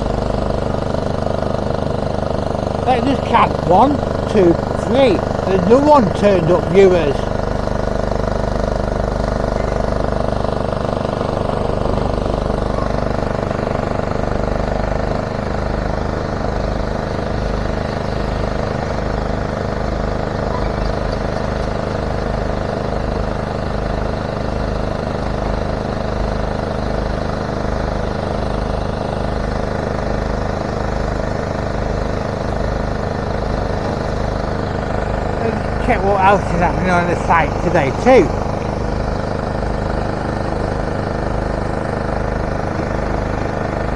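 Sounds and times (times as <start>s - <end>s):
diesel machinery engines droning: 0.0s - 43.9s.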